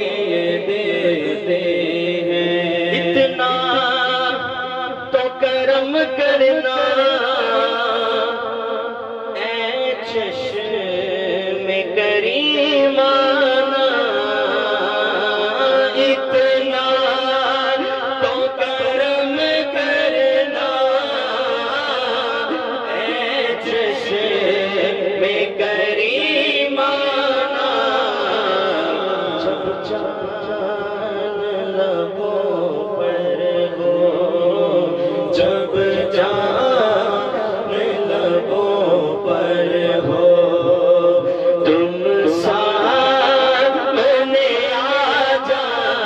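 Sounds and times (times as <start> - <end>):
man singing into a microphone: 0.0 - 46.0.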